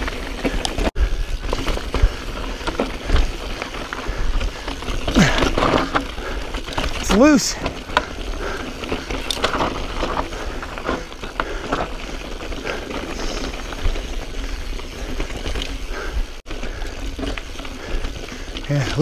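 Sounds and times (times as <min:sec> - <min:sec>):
bike rattling: 0:00.0 - 0:19.0
tyres crunching over gravel: 0:00.0 - 0:19.0.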